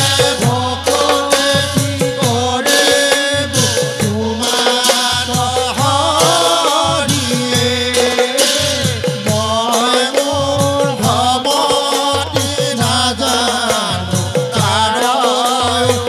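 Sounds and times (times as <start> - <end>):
group of men chanting: 0.0 - 16.0
hand cymbals clashing: 0.0 - 16.0.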